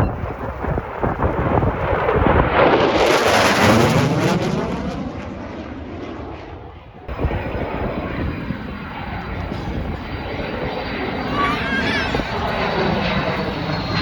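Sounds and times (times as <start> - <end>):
aircraft engine with high whine: 0.0 - 14.0
aircraft flying past low: 0.0 - 14.0.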